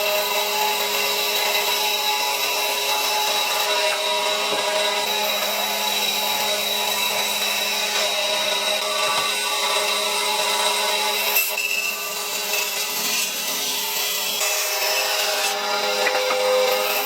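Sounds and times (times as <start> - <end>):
power tool working wood: 0.0 - 17.0.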